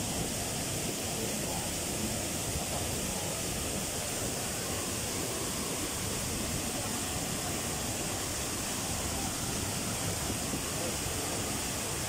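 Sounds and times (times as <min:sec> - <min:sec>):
water pouring over weir: 0:00.0 - 0:12.0.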